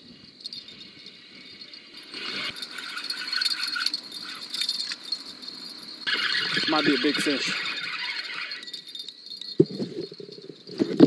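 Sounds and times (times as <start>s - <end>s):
crickets chirping: 0.0s - 11.0s
fishing reel rattling: 0.0s - 11.0s.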